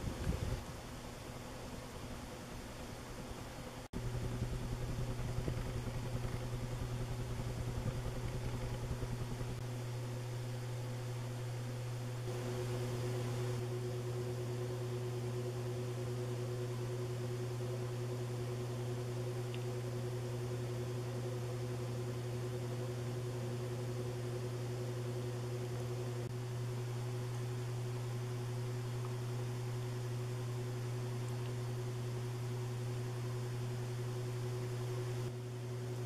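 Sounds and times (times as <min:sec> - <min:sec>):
ceiling fan humming: 0:00.0 - 0:36.0.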